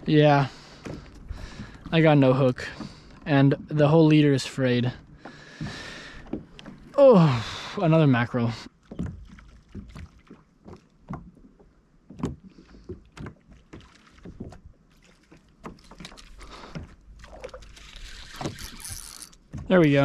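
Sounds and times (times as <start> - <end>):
knocks and clatter on a kayak: 0.5 - 7.0, 8.7 - 20.0.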